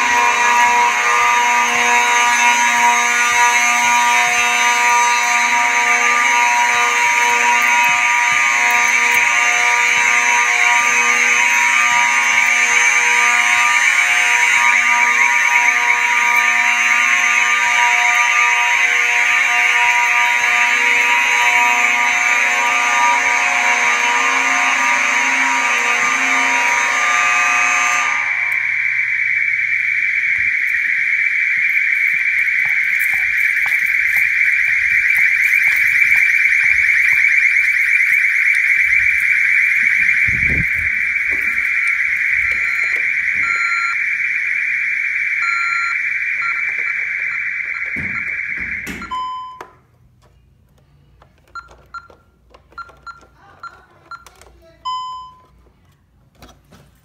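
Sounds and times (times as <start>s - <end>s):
fire alarm horns buzzing: 0.0s - 50.2s.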